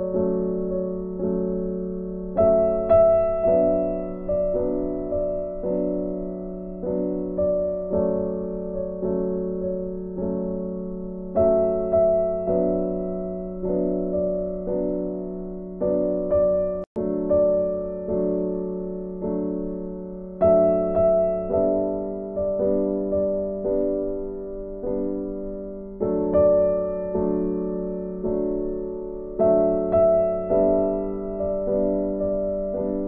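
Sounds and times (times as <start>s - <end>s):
gentle piano melody: 0.0s - 33.0s.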